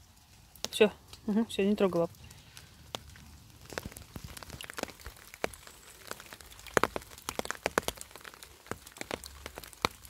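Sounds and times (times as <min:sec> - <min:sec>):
dry leaves crackling: 0:00.0 - 0:10.0.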